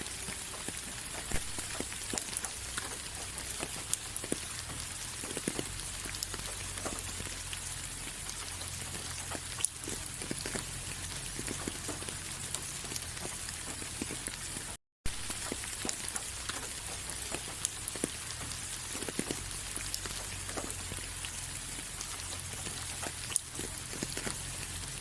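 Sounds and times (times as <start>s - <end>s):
raindrops ticking: 0.0s - 25.0s
steady rain: 0.0s - 25.0s.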